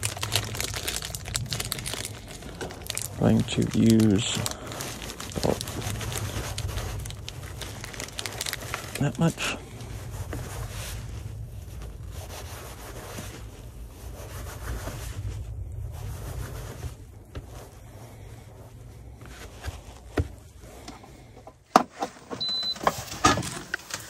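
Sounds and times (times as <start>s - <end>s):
steady low hum: 0.0s - 23.2s.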